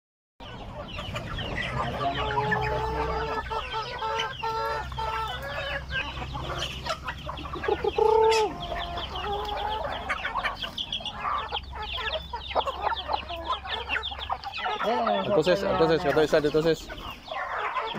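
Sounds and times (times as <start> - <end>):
chickens clucking and calling: 0.4 - 17.9.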